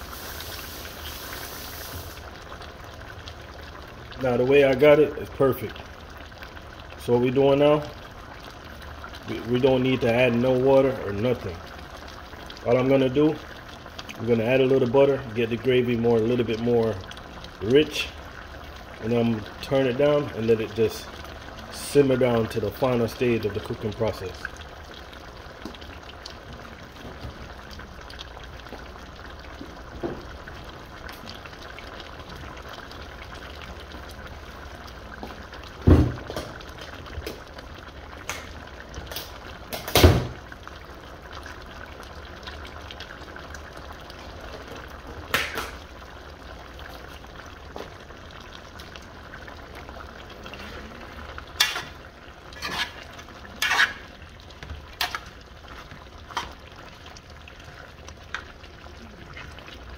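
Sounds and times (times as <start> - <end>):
gravy bubbling in metal pot: 0.0 - 59.9.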